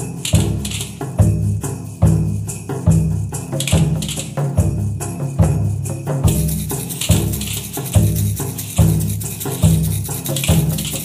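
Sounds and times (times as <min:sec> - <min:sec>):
jingling high percussion: 0:00.0 - 0:11.0.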